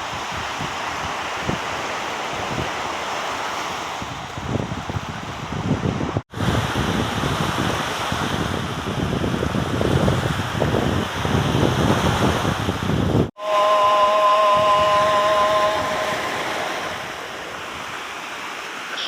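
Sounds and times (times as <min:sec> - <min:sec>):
wind buffeting microphone: 0:00.0 - 0:18.7
rush of the sea: 0:00.0 - 0:19.0.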